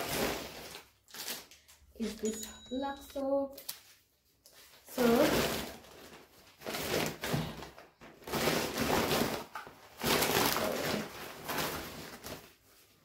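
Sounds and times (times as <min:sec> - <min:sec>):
packaging rustling: 0:00.0 - 0:02.2, 0:03.5 - 0:13.0.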